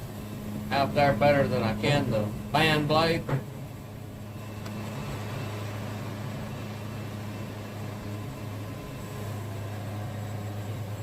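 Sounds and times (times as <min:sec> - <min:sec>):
band sawmill humming: 0:00.0 - 0:11.0.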